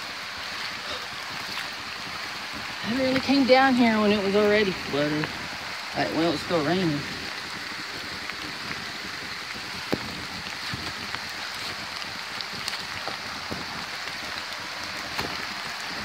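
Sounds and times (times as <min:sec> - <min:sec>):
creek rushing: 0:00.0 - 0:16.0
rain hissing: 0:00.0 - 0:16.0.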